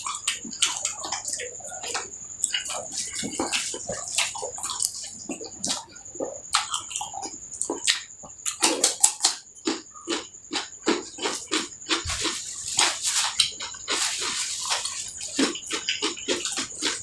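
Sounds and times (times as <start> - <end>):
wet chewing and lip-smacking: 0.0 - 17.0.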